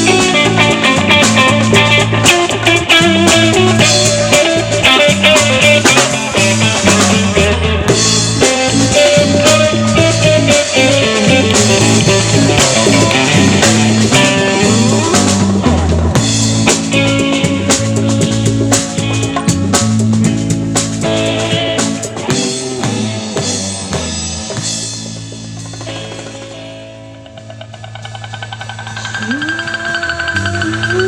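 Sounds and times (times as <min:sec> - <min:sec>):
bass line: 0:00.0 - 0:31.0
drum kit: 0:00.0 - 0:31.0
guitar: 0:00.0 - 0:31.0.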